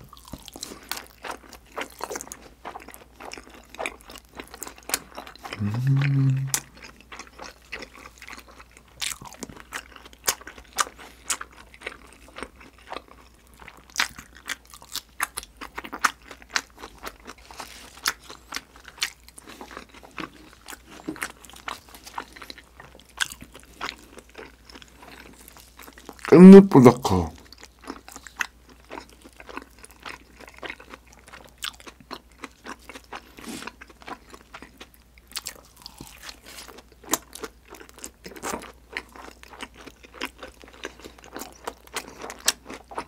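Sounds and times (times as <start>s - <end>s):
wet chewing mouth sounds: 0.0s - 26.3s, 27.3s - 43.0s.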